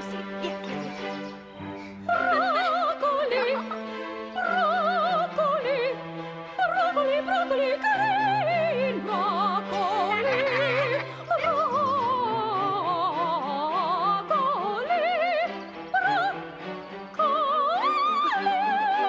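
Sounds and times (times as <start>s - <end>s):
operatic singing: 0.0s - 19.0s
orchestral accompaniment: 0.0s - 19.0s.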